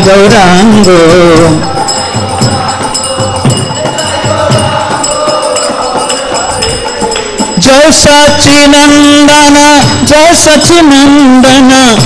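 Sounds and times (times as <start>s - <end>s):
drum beating: 0.0s - 12.0s
group of voices singing: 0.0s - 12.0s
hand cymbals ringing: 0.0s - 12.0s
lead voice singing: 0.0s - 12.0s.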